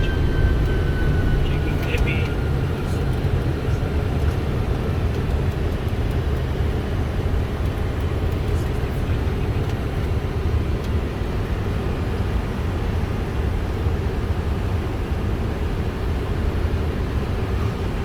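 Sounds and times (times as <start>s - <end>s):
rumble of airflow and engines: 0.0s - 18.0s.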